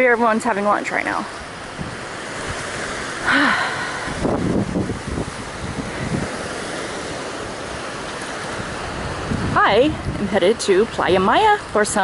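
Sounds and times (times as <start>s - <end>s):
sea waves washing onto beach: 0.0s - 12.0s
wind on microphone: 1.0s - 12.0s.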